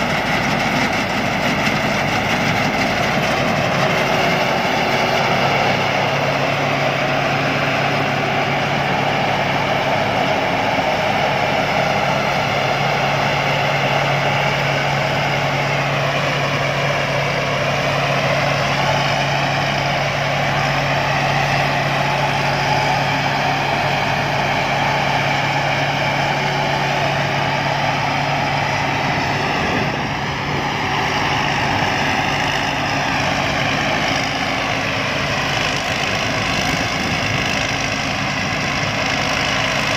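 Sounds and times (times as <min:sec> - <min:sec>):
harvester engine running: 0:00.0 - 0:39.9
whine shifting in pitch: 0:00.0 - 0:39.9.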